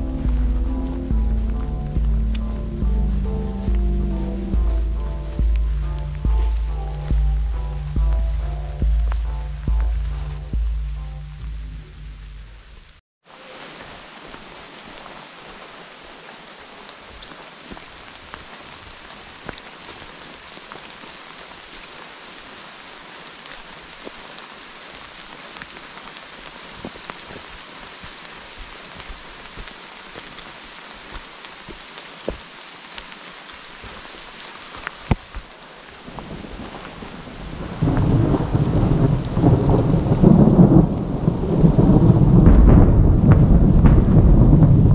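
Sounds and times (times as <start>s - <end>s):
sharp ticks of raindrops: 0.0s - 13.0s, 13.6s - 44.9s
steady rain falling: 0.0s - 44.9s.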